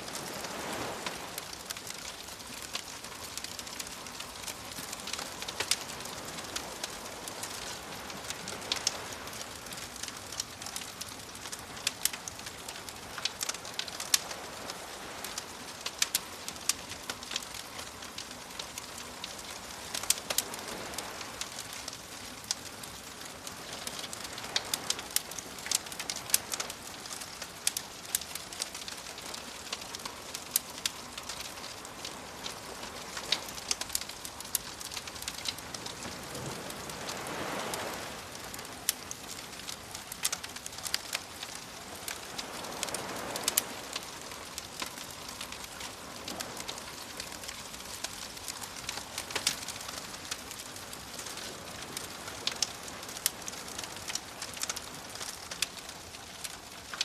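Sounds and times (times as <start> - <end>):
waves washing: 0.0 - 55.7
wood fire crackling and popping: 0.0 - 57.0.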